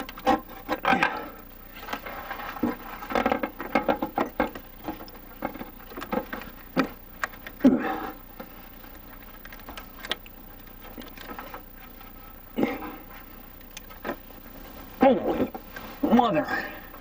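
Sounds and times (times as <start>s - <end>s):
parts being handled by hand: 0.0s - 17.0s.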